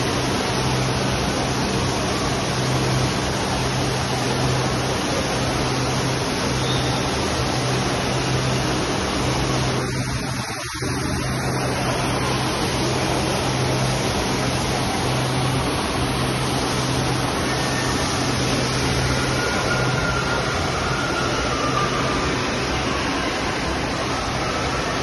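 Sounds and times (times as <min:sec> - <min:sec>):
flowing water: 0:00.0 - 0:25.0
steady low hum: 0:00.0 - 0:25.0
waterfall rushing: 0:00.0 - 0:25.0.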